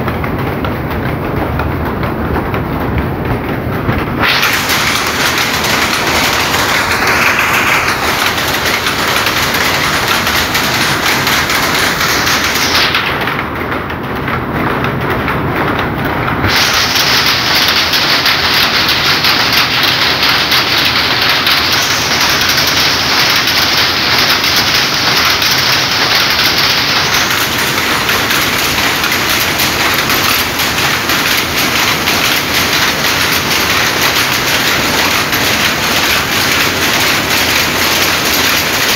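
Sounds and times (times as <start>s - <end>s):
powerlooms clattering: 0.0s - 38.9s.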